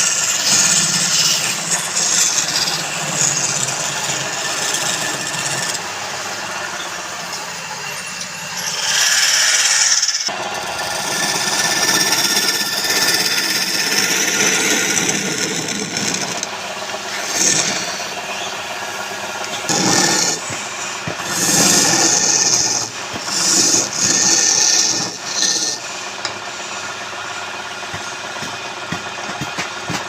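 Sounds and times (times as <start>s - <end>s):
power tool cutting wood: 0.0s - 27.1s.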